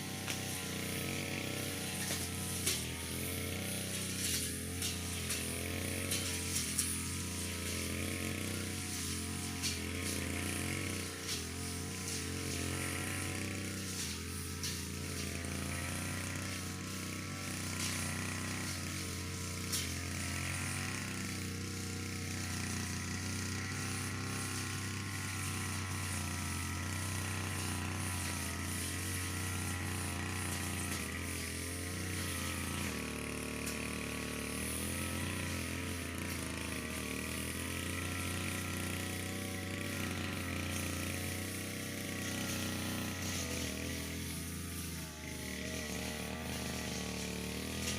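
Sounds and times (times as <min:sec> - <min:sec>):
brush cutter engine cutting grass: 0:00.0 - 0:47.9.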